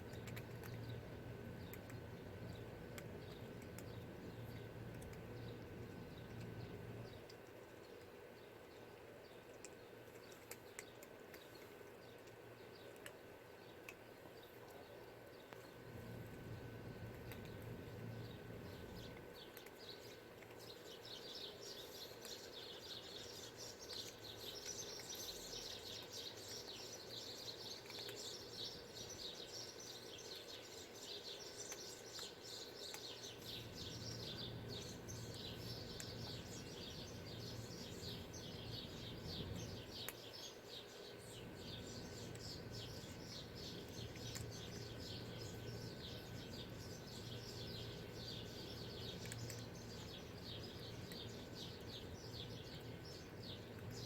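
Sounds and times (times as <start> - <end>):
low steady hum: 0.0 - 54.0
small birds chirping: 0.0 - 54.0.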